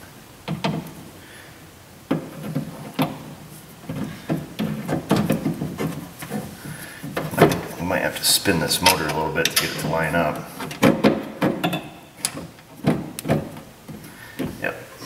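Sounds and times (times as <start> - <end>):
metal clunks and knocks: 0.4 - 0.9, 2.1 - 7.9, 8.8 - 14.6.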